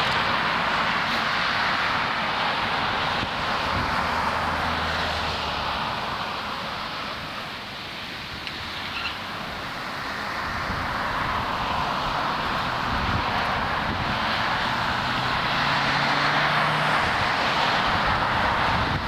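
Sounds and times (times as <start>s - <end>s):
jet airliner engine roar: 0.0s - 19.0s.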